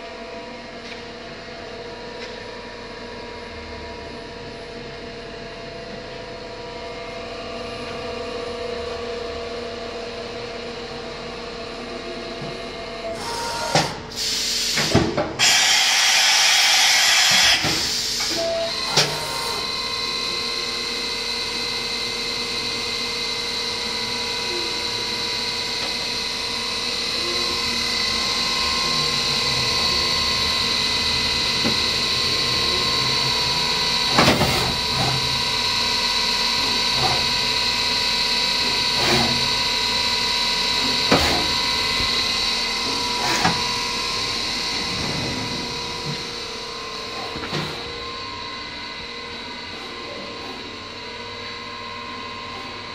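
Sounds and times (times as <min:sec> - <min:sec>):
milling machine high-pitched whine: 0:00.0 - 0:52.9.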